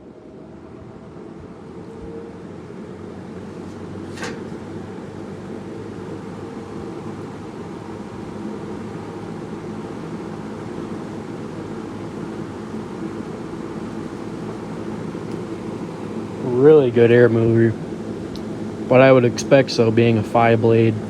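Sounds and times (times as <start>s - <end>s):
box fan air rush and hum: 0.0s - 21.0s.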